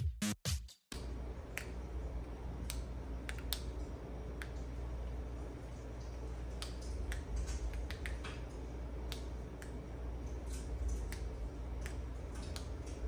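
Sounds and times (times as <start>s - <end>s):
low steady hum: 1.0s - 13.0s.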